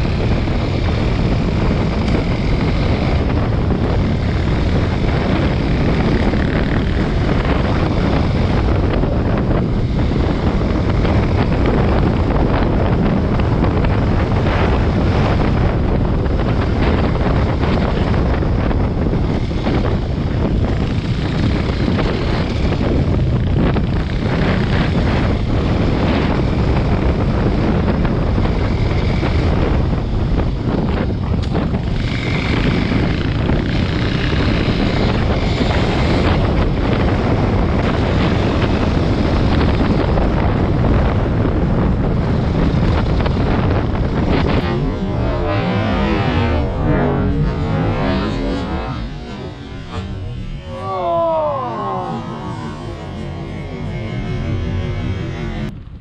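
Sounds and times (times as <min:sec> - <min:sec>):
dirt bike engine running: 0:00.0 - 0:56.0
wind buffeting microphone: 0:00.0 - 0:56.0.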